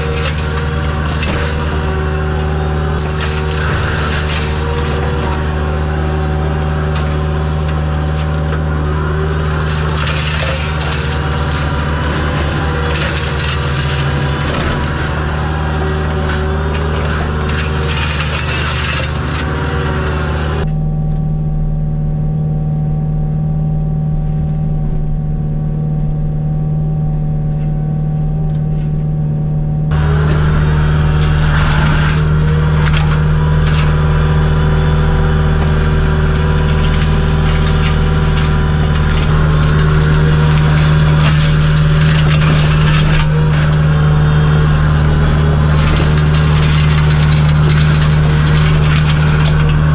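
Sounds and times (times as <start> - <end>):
flail mower shredding wood: 0.0 - 20.7, 29.9 - 49.9
excavator diesel engine running: 0.0 - 49.9.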